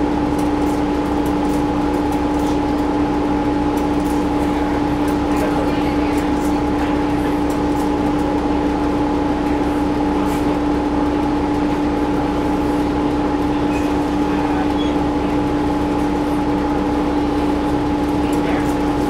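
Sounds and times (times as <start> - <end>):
bus diesel engine hum: 0.0 - 19.0.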